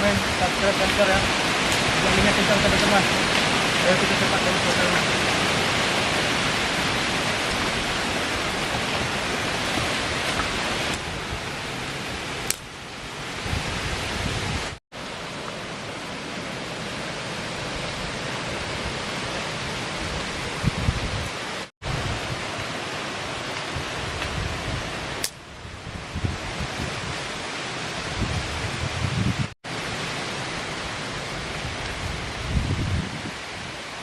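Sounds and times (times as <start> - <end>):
strong wind through trees: 0.0 - 34.0.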